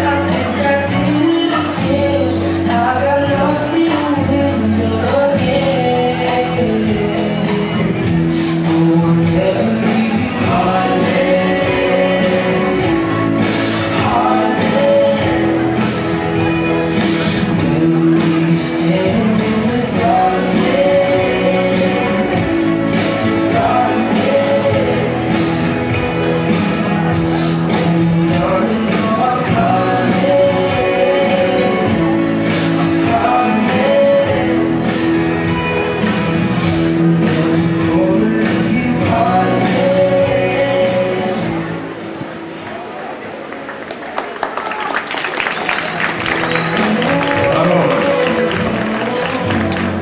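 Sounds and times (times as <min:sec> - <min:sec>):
rumba music with singing: 0:00.0 - 0:43.2, 0:44.8 - 0:50.0.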